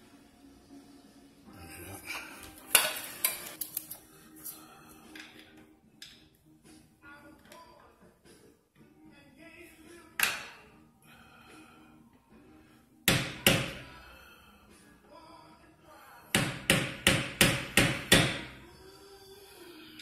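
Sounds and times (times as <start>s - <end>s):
faint background music: 0.0s - 20.0s.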